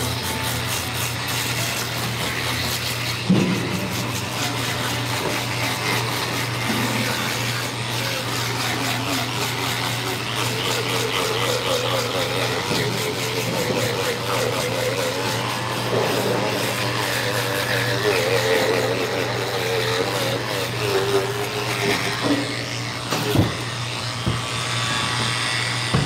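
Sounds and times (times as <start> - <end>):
electric fish scaler scraping: 0.0 - 26.0.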